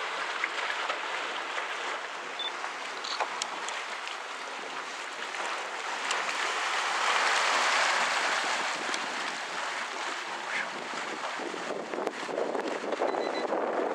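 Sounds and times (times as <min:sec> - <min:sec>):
hot spring water churning and splashing: 0:00.0 - 0:13.9.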